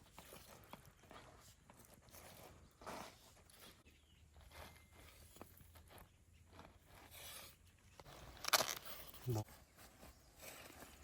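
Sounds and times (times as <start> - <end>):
soft rustle: 0.0 - 11.0.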